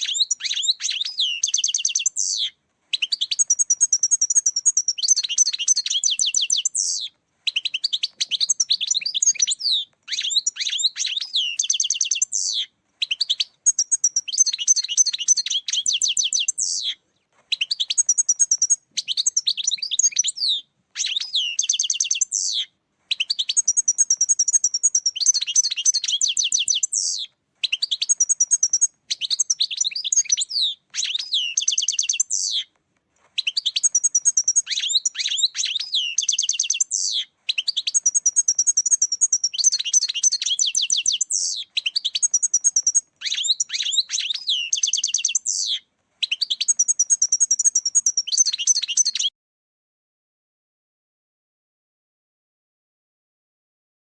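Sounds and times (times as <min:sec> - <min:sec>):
goldfinch singing: 0:00.0 - 0:32.7, 0:33.4 - 0:49.3.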